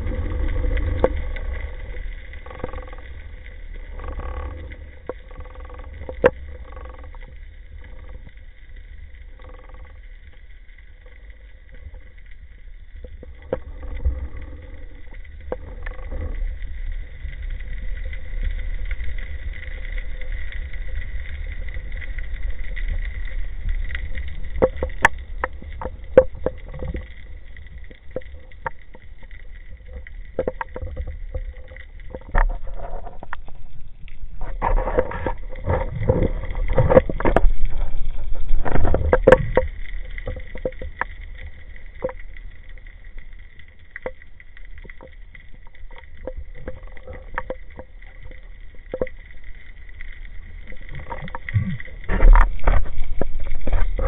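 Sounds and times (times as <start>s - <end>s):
faint steady whine: 0.0s - 54.0s
underwater low rumble: 0.0s - 54.0s.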